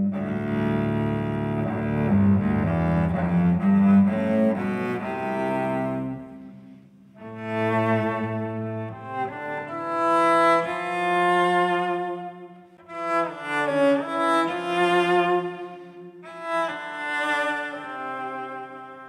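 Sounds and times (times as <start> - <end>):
cello with octave-down pitch shifter: 0.0 - 19.0.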